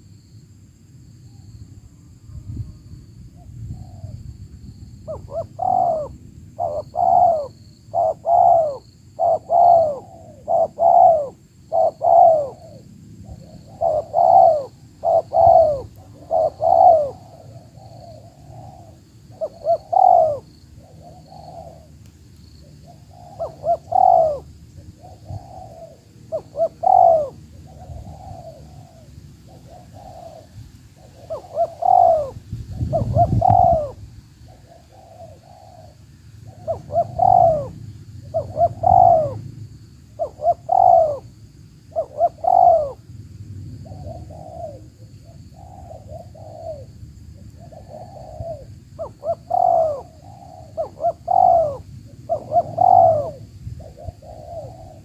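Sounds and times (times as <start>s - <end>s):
doves cooing: 5.1s - 39.4s, 40.2s - 41.3s, 41.9s - 43.0s, 43.8s - 55.0s.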